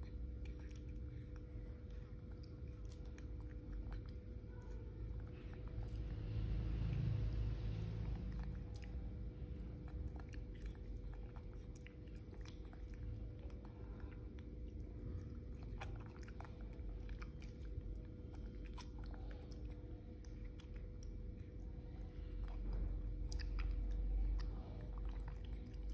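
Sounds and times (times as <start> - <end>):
monkey chewing and smacking: 0.0 - 25.9.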